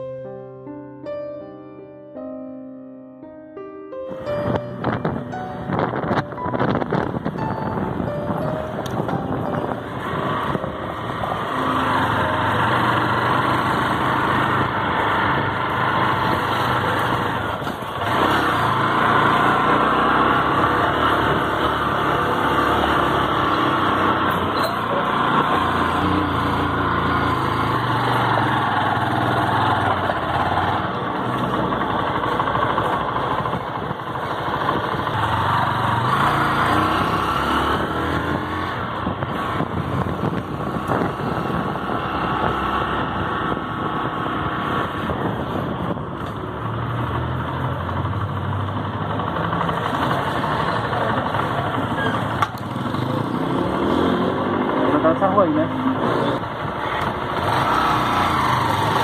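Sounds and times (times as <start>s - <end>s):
road and wind noise: 4.0s - 59.0s
vehicle engine running: 4.1s - 59.0s.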